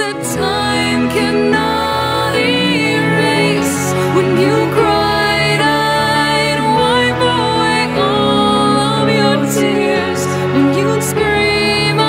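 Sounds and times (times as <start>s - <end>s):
slow sustained background music: 0.0s - 12.0s.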